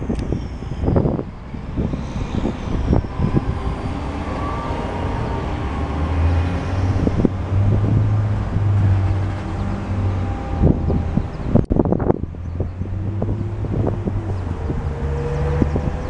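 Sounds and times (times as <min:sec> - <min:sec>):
low engine hum: 0:00.0 - 0:16.0
wind gusting on microphone: 0:00.0 - 0:16.0.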